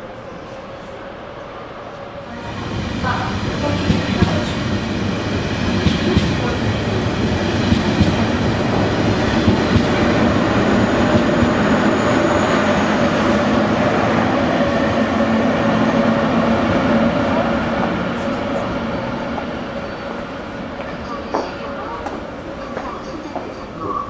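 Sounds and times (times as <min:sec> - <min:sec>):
locomotive hum: 0:00.0 - 0:24.0
train carriages rushing past: 0:00.0 - 0:24.0.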